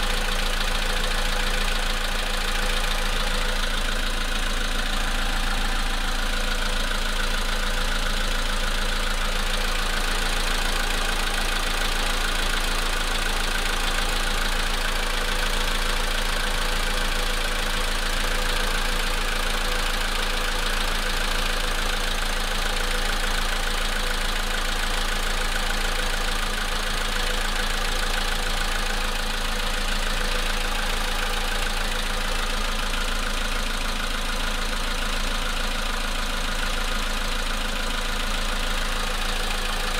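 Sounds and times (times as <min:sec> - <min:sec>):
car engine idling: 0:00.0 - 0:39.9
engine knocking: 0:00.0 - 0:39.9.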